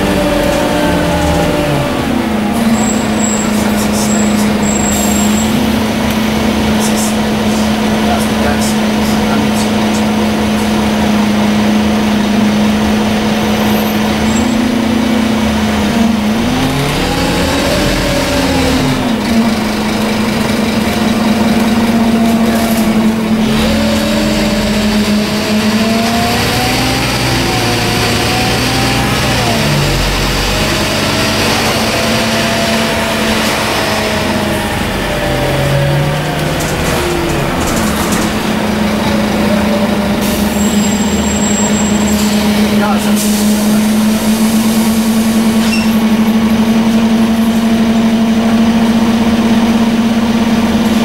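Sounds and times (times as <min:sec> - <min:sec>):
bus diesel engine accelerating: 0:00.0 - 0:51.0.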